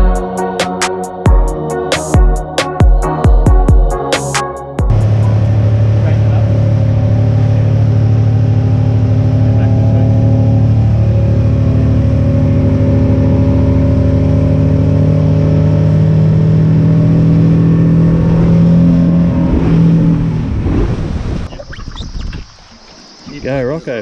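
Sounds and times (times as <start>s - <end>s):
boat engine running: 0.0s - 21.5s.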